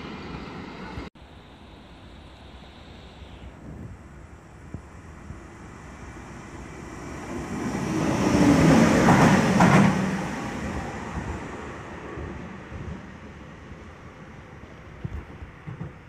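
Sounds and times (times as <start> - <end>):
electric locomotive passing: 0.0 - 16.0.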